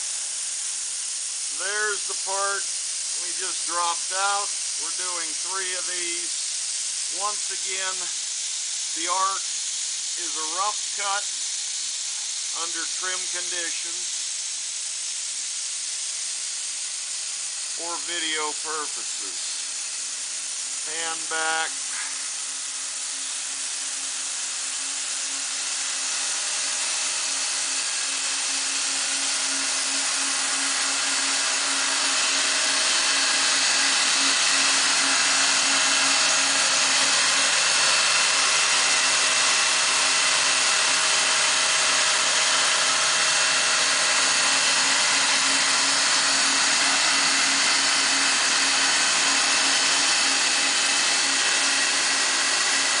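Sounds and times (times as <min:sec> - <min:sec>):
constant machine hum: 0:00.0 - 0:15.2, 0:16.6 - 0:53.0
pump motors whirring hiss: 0:00.0 - 0:53.0.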